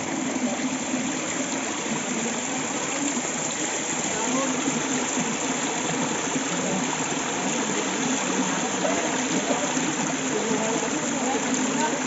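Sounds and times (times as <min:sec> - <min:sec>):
stream water gurgling: 0:00.0 - 0:12.0.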